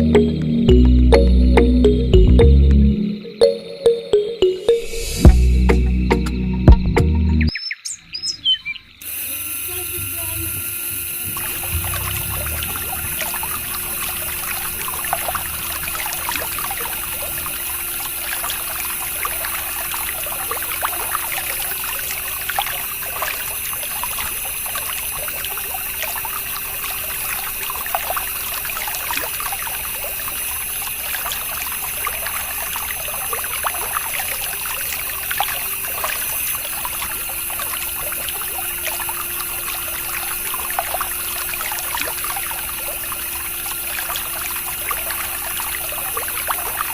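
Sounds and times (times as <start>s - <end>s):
small pump motor humming: 8.9s - 46.9s
water trickling and splashing: 8.9s - 46.9s.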